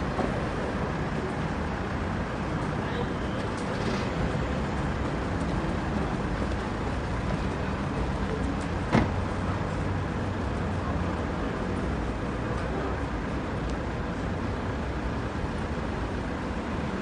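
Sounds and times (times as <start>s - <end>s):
hum of car engines and traffic: 0.0s - 17.0s.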